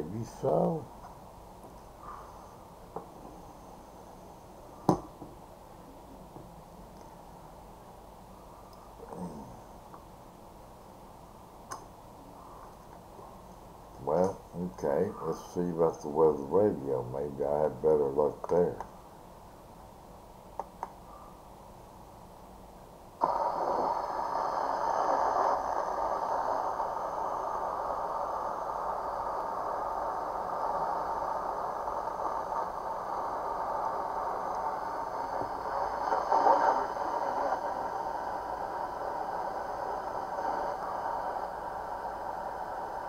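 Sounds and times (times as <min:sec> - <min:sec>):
radio static hiss: 0:00.0 - 0:19.5, 0:23.2 - 0:43.0.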